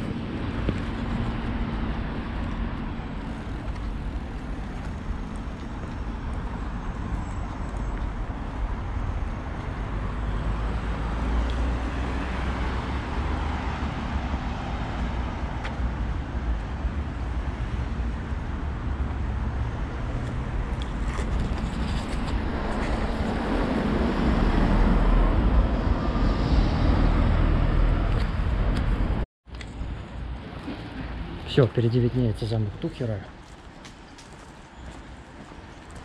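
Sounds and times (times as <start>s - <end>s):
rumble of passing cars: 0.0s - 36.0s.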